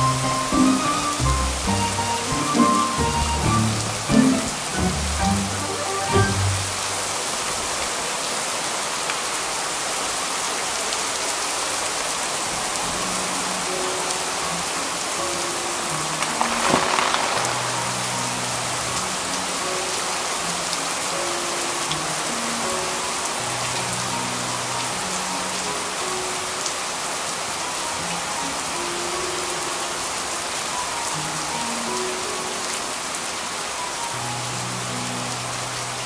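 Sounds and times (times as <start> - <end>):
soft slow background music: 0.0 - 7.0, 12.6 - 36.0
rain falling: 0.0 - 36.0.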